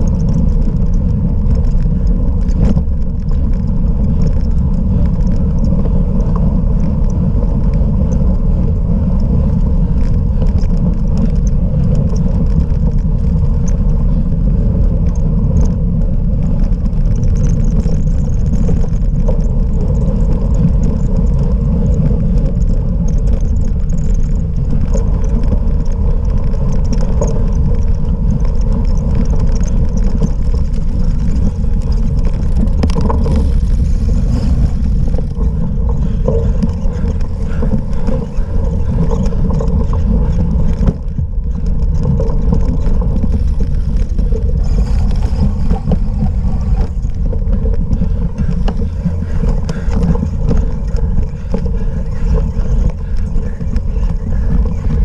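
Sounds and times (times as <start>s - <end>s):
bike rumbling over rough ground: 0.0s - 55.0s
small rattles and knocks: 0.0s - 55.0s
wind buffeting microphone: 0.0s - 55.0s.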